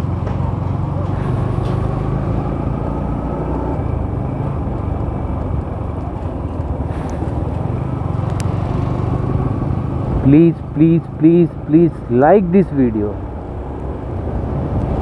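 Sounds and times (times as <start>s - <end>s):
motorcycle engine hum: 0.0s - 15.0s
road and wind noise: 0.0s - 15.0s.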